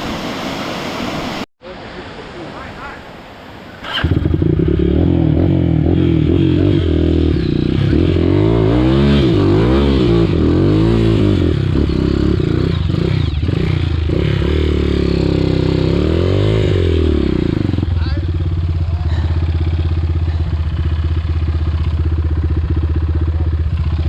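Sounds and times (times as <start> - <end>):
dirt bike engine revving: 3.8 - 24.0.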